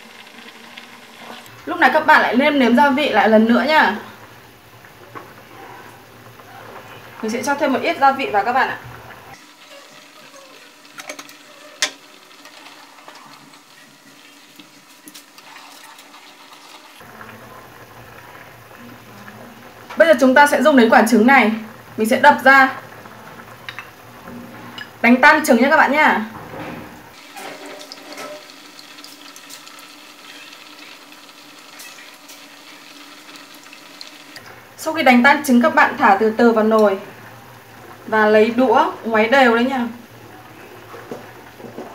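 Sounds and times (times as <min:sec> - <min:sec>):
soup boiling in a pot: 0:00.0 - 0:26.4, 0:27.0 - 0:41.9.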